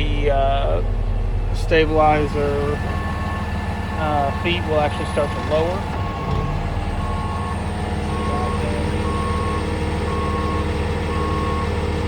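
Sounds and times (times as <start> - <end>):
diesel engine running: 0.0 - 12.0
hydraulic whine: 0.0 - 12.0
warning beeper: 1.7 - 12.0.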